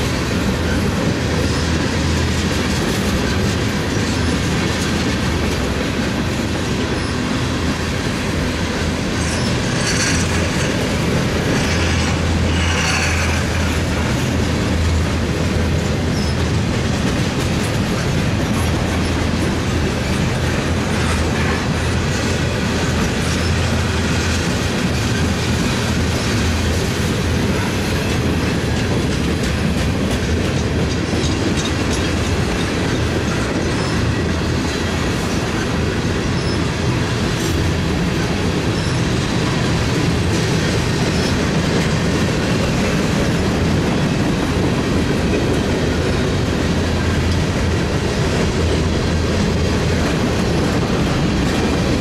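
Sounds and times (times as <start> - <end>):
train wheels rumbling on rail: 0.0 - 52.0
wheels clicking over rail joints: 0.0 - 52.0.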